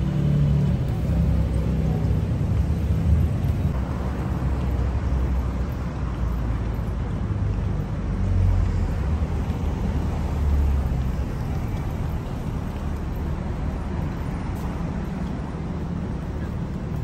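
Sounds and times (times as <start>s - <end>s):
hum of passing vehicles: 0.0s - 17.0s.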